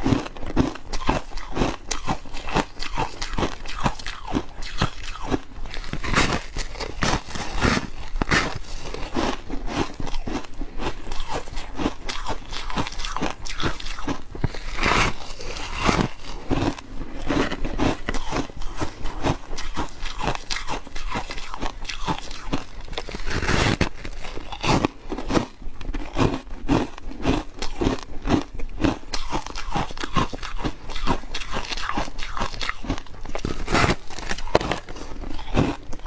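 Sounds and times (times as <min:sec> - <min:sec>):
person crunching ice: 0:00.0 - 0:36.0.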